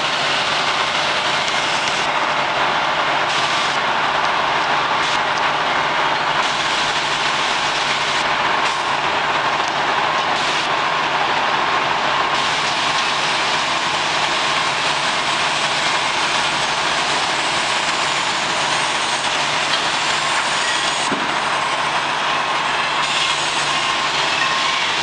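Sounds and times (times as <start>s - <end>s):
garbage truck running: 0.0s - 25.0s.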